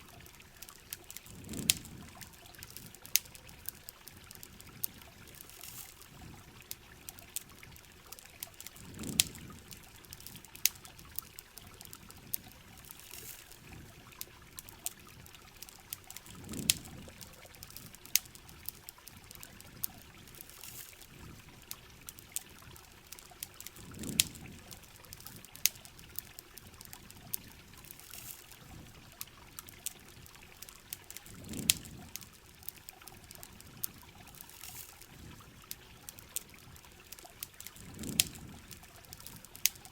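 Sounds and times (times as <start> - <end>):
running water: 0.0 - 39.9
sharp ticks and crackles: 0.0 - 39.9
steady rain: 0.0 - 39.9.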